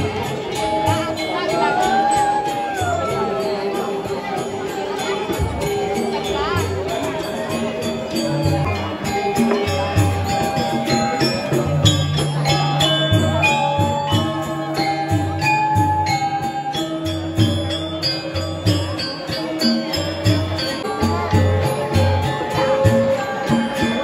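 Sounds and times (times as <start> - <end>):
small cymbals clashing: 0.1 - 24.0.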